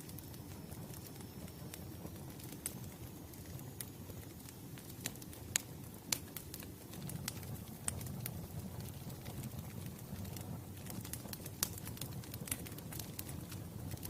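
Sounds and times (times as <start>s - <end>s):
burning logs rumbling: 0.0s - 14.0s
fire snaps and pops: 0.0s - 14.0s.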